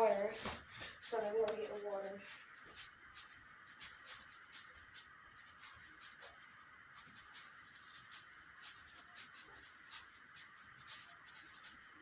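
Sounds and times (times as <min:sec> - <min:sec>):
steady hiss: 0:00.0 - 0:12.0
light scratching ticks: 0:01.4 - 0:12.0.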